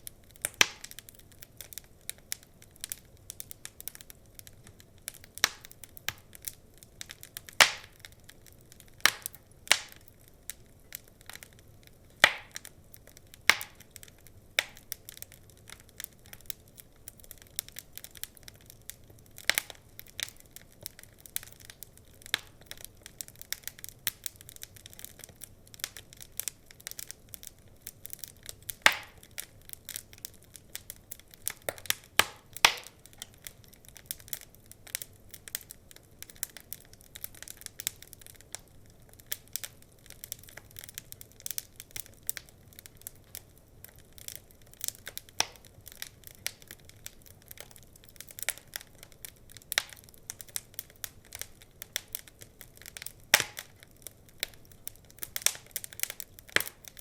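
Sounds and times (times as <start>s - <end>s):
faint steady hiss: 0.0s - 57.0s
wood fire crackling: 0.0s - 57.0s.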